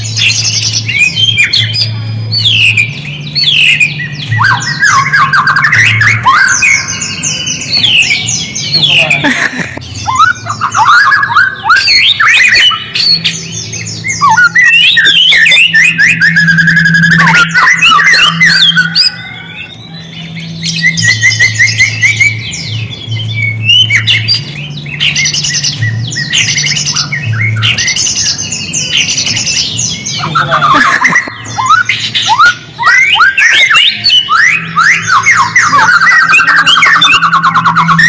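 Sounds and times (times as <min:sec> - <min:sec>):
songbird singing trills and whistles: 0:00.0 - 0:38.0.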